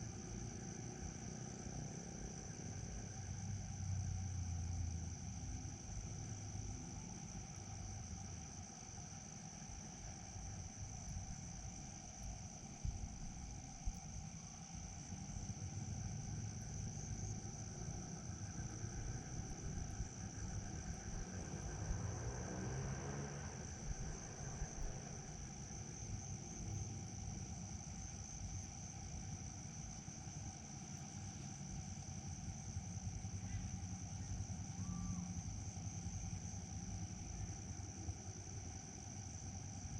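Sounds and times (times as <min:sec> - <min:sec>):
insects trilling: 0:00.0 - 0:39.9
low background rumble: 0:00.0 - 0:39.9.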